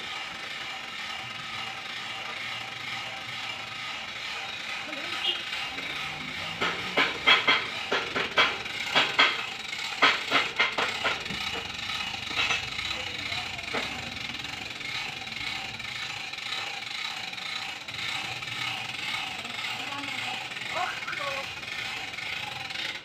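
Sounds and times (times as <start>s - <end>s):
mechanical noise: 0.0s - 23.0s
winch ratchet clicking: 0.0s - 23.0s.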